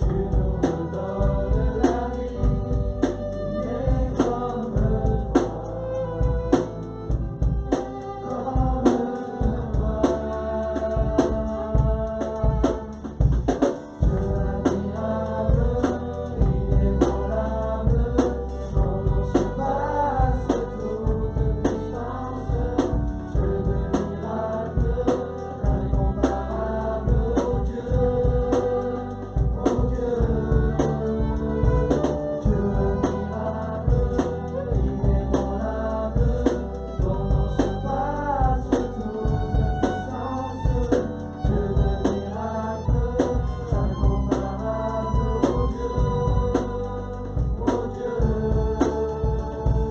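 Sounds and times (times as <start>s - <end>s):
drum beat and heavy bass: 0.0s - 49.9s
person singing: 0.0s - 49.9s.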